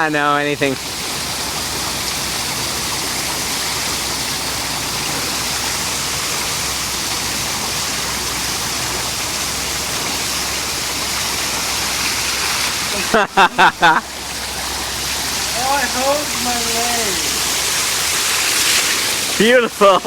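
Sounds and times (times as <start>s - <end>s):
water fountain splashing: 0.0s - 20.0s.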